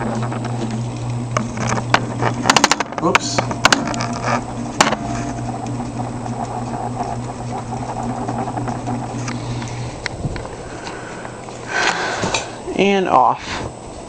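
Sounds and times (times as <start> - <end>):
ceiling fan humming: 0.0 - 14.0
fan blades rushing: 0.0 - 14.0.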